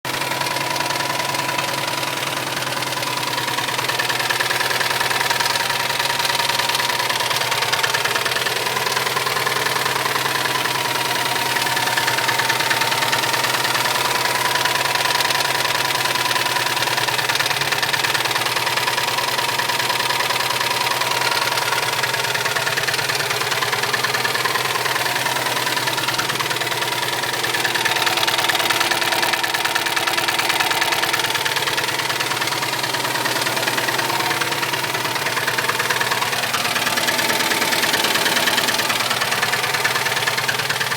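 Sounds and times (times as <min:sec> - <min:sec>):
car engine running: 0:00.0 - 0:40.9
rapid knock inside engine: 0:00.0 - 0:40.9.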